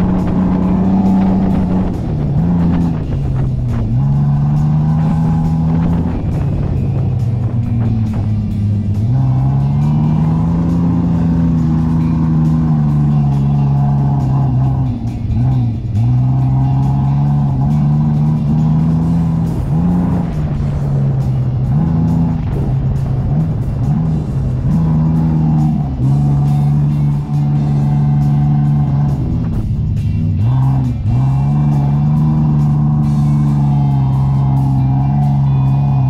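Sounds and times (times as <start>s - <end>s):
suv engine revving: 0.0s - 36.0s.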